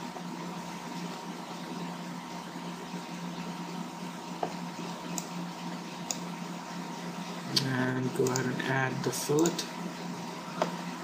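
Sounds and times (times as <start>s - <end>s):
recording hiss and hum: 0.0s - 11.0s.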